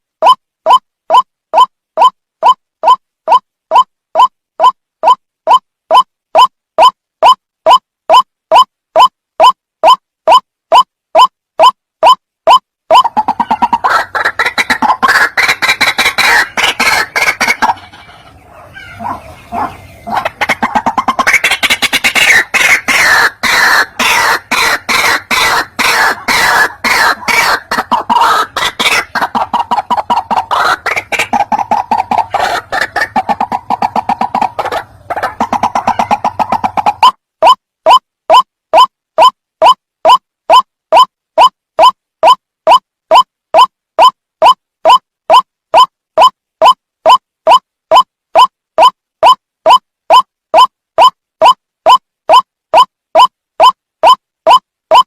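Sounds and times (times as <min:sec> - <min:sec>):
waterhen harsh repeated calls: 0:00.2 - 0:55.0.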